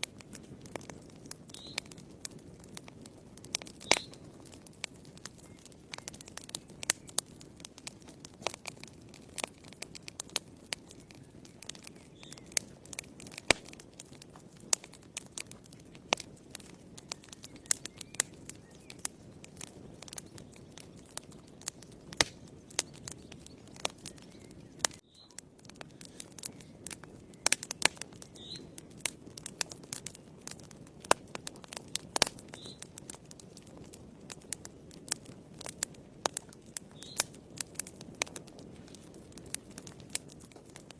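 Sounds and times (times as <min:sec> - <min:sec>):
fire crackling and popping: 0:00.0 - 0:40.9
low rush of flame: 0:00.0 - 0:40.9.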